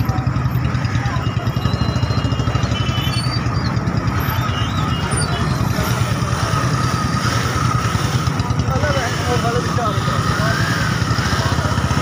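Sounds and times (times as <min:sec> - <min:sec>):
motorcycle engine running: 0:00.0 - 0:12.0
traffic engines: 0:00.0 - 0:12.0.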